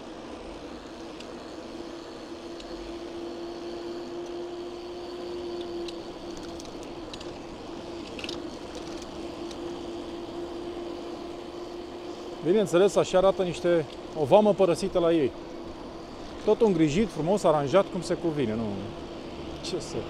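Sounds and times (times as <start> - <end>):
electric bike motor whine: 0.0 - 20.0.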